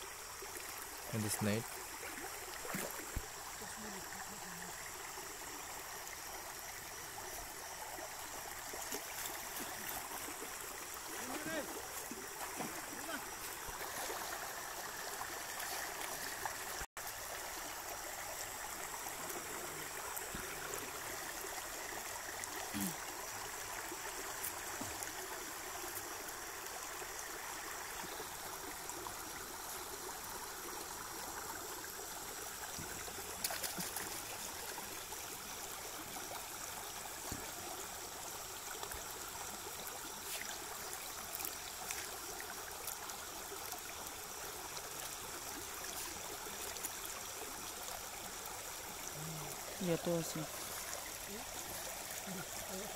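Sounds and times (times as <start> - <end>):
flowing water rushing: 0.0 - 52.9.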